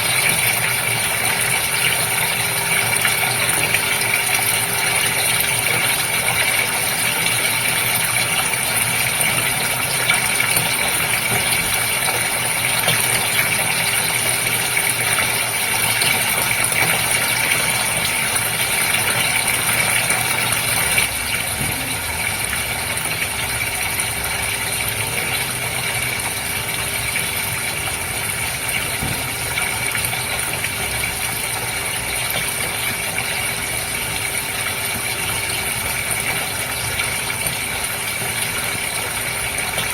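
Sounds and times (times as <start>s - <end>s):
aquarium pump humming: 0.0s - 39.9s
water trickling and bubbling: 0.0s - 39.9s.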